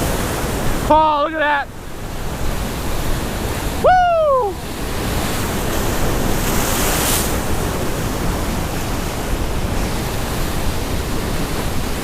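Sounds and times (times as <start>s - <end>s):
storm surf crashing over rocks: 0.0s - 12.0s.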